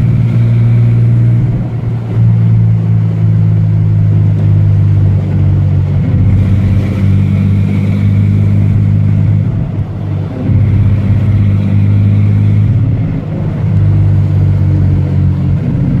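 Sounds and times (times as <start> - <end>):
engine misfiring: 0.0 - 16.0.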